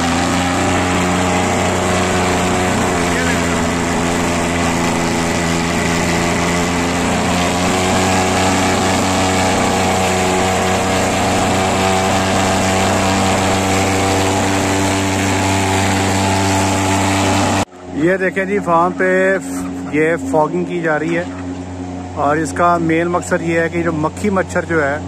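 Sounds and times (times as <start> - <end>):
fogging machine engine drone: 0.0 - 25.0.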